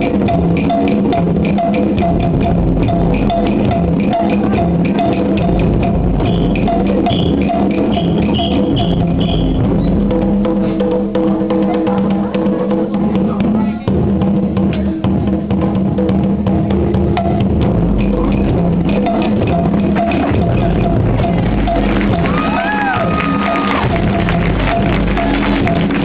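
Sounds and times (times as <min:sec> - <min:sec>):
bass drum beat: 0:00.0 - 0:26.0
djembe hand drums: 0:00.0 - 0:26.0.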